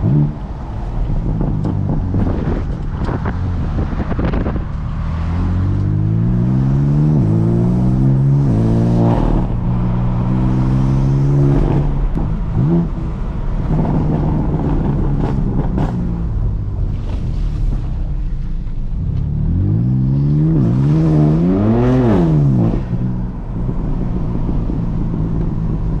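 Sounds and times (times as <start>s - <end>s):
car engine accelerating hard: 0.0s - 18.3s, 18.9s - 26.0s.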